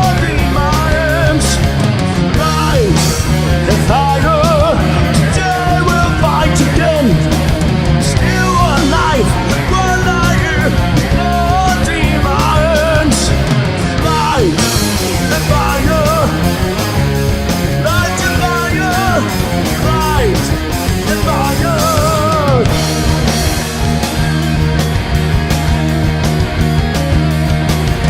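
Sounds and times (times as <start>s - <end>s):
guitar lead with bent notes: 0.0s - 28.0s
rock band playing live: 0.0s - 28.0s.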